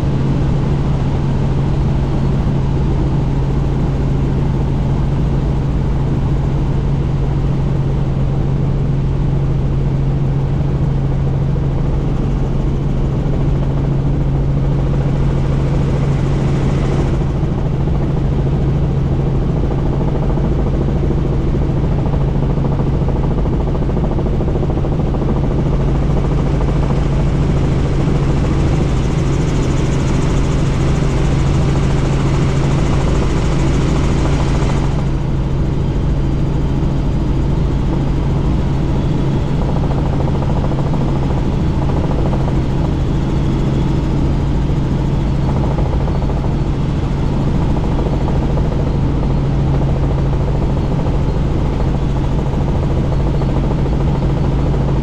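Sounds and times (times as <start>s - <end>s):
helicopter rotor and engine drone: 0.0s - 55.0s
rushing wind: 10.2s - 55.0s.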